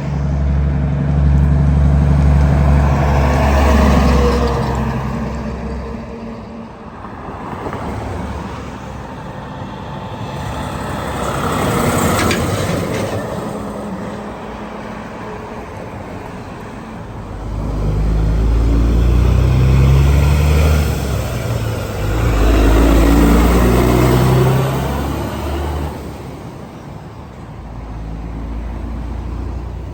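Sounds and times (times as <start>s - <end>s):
diesel truck engines droning: 0.0s - 29.9s
road traffic passing: 0.0s - 29.9s.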